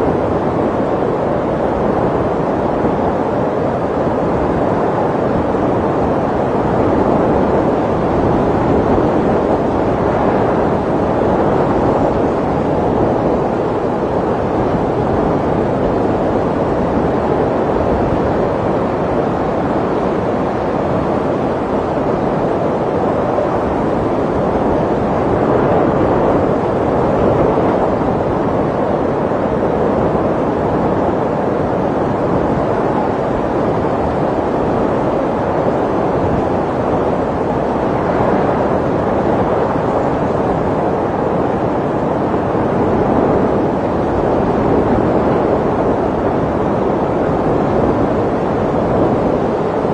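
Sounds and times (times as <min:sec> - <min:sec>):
snowstorm wind blowing: 0:00.0 - 0:49.9.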